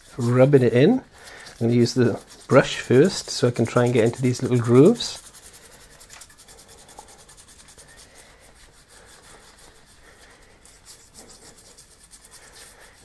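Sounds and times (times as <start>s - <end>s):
toothbrush scrubbing metal: 0.0s - 13.0s.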